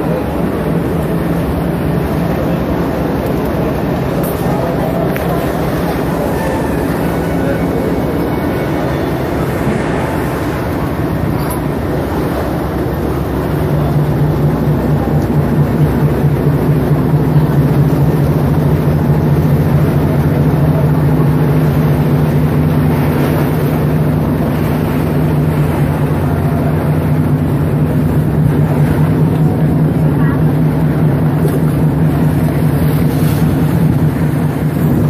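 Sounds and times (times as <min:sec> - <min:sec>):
ferry engine drone: 0:00.0 - 0:35.0
rushing water: 0:00.0 - 0:35.0
wind: 0:00.0 - 0:35.0.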